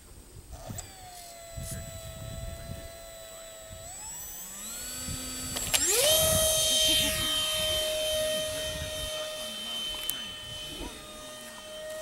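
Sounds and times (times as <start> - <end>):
model airplane motor whine: 0.4 - 12.0.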